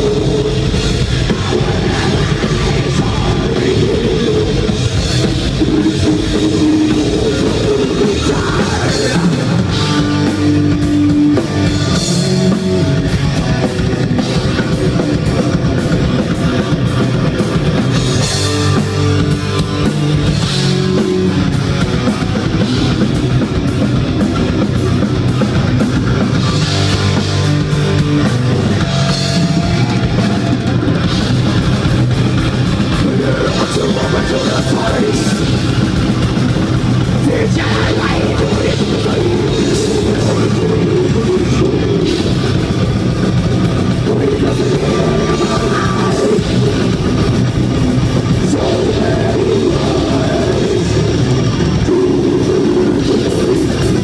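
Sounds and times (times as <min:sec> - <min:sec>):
bass guitar: 0:00.0 - 0:54.0
distorted electric guitars: 0:00.0 - 0:54.0
fast drumming with cymbals: 0:00.0 - 0:54.0.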